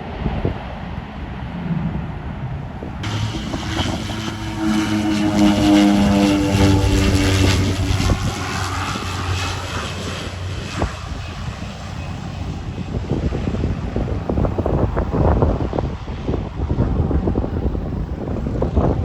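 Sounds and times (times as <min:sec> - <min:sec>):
aircraft engines passing: 0:00.0 - 0:19.0
wind buffeting microphone: 0:00.0 - 0:19.0.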